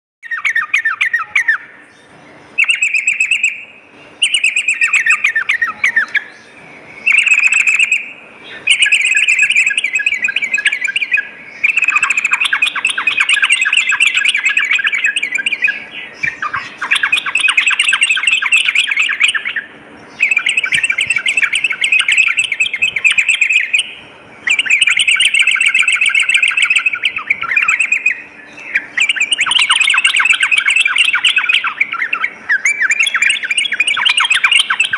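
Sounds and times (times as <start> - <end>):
bulbul singing in chattering bursts: 2.4 - 34.9.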